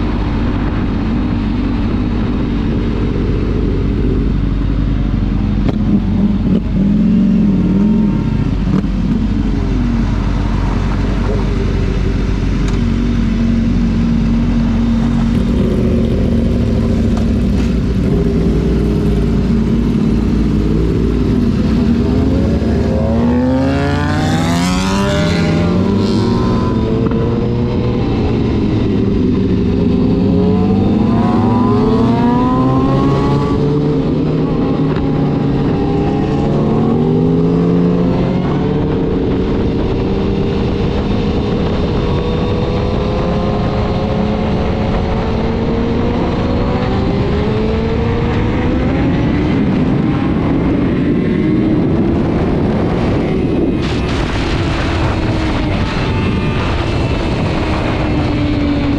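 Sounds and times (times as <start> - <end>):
motorcycle engines revving: 0.0 - 58.9.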